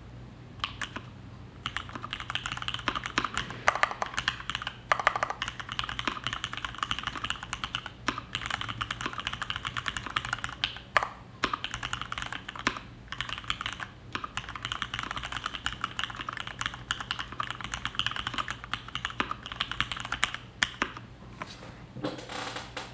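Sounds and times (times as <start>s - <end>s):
fast mechanical keyboard typing: 0.6s - 21.0s.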